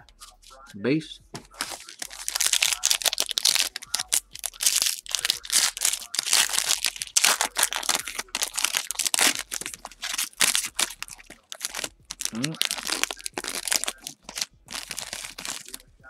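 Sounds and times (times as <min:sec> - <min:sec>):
foil wrapper tearing and crinkling: 0:01.4 - 0:15.8.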